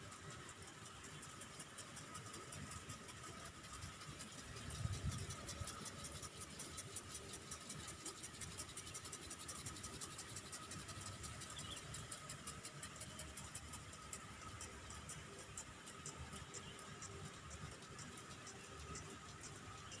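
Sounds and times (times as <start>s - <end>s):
sprinkler spray hissing and ticking: 0.0s - 20.0s.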